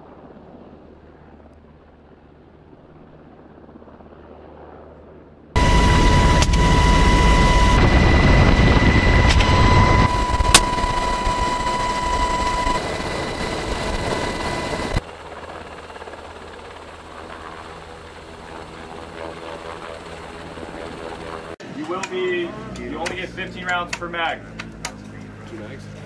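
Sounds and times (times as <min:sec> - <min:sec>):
helicopter rotor and turbine whine: 0:00.0 - 0:26.0.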